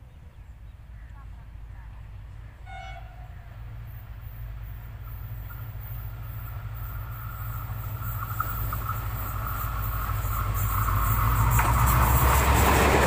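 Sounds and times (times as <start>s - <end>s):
diesel locomotive rumble: 0.0s - 13.0s.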